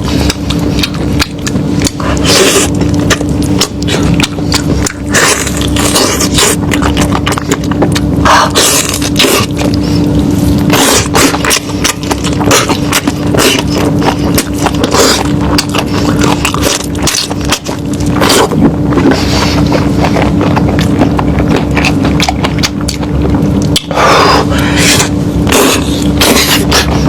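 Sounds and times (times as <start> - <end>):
loud chewing with lip smacks: 0.0 - 27.0
steady low hum: 0.0 - 27.0.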